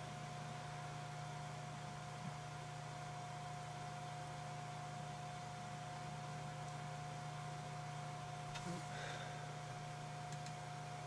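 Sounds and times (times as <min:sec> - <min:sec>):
computer low hum: 0:00.0 - 0:11.0
thin steady whine: 0:00.0 - 0:11.0.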